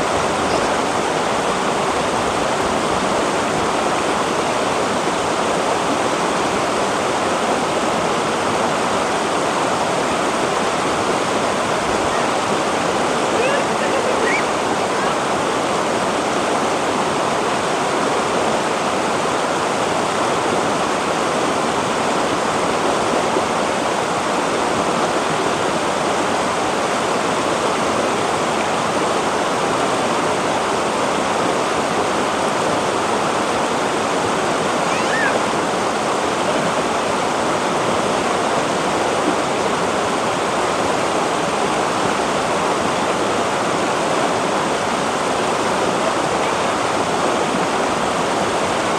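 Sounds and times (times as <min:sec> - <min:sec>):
river rushing over boulders: 0:00.0 - 0:48.9.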